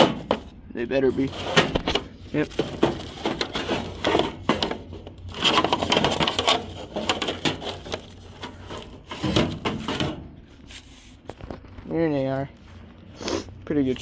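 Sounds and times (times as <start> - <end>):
rummaging through fan parts: 0.0 - 14.0.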